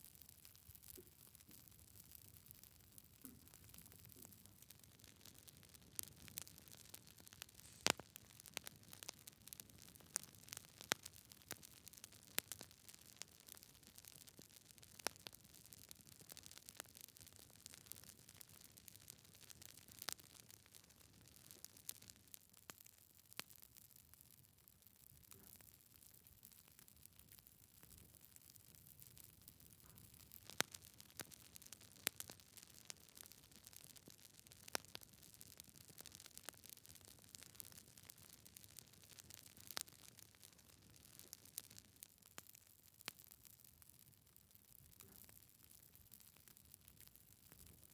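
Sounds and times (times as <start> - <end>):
logs crackling in fireplace: 0.0 - 23.7, 26.8 - 47.9.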